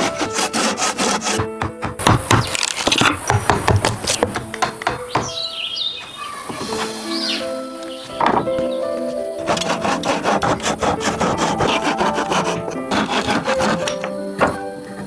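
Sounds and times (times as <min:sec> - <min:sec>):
wood rasping on wood: 0:00.0 - 0:07.6, 0:09.4 - 0:15.0
background music: 0:00.0 - 0:15.0.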